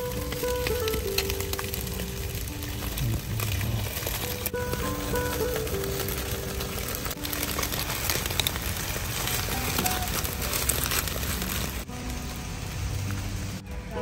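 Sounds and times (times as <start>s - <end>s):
metal tongs turning food: 0.0s - 11.8s
leaf parcels crackling on grill: 0.0s - 14.0s.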